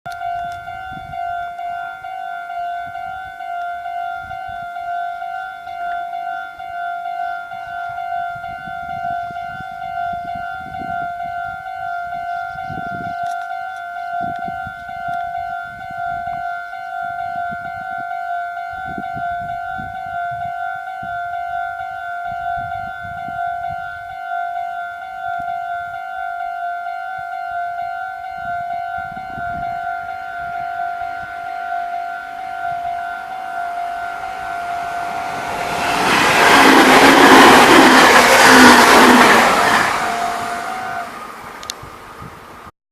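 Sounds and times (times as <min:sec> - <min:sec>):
level crossing warning bell: 0:00.1 - 0:41.7.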